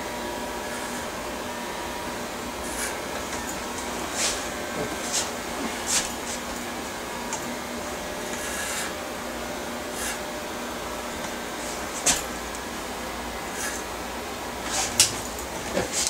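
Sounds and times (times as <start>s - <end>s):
electric hair clippers humming: 0.0s - 16.0s.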